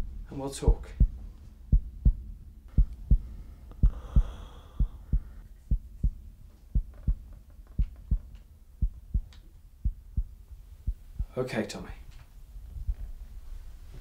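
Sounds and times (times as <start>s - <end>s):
heartbeat double thumps: 0.0s - 11.4s, 12.7s - 13.1s
faint low rumble: 0.0s - 14.0s.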